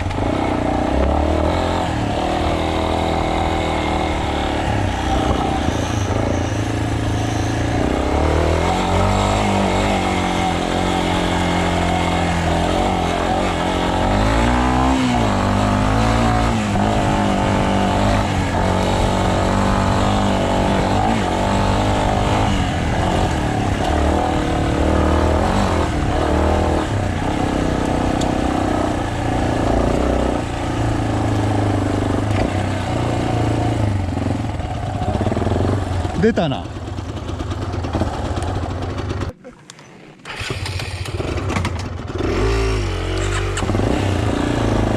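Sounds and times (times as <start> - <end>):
motorcycle engine revving: 0.0 - 39.4, 40.1 - 44.9.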